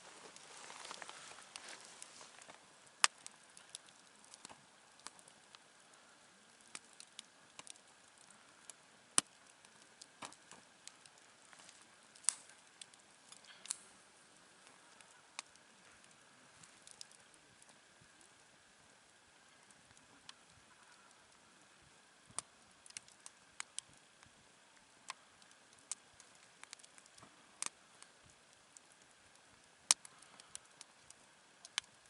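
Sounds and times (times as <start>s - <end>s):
campfire crackling and popping: 0.0s - 32.0s
faint steady hiss: 0.0s - 32.0s.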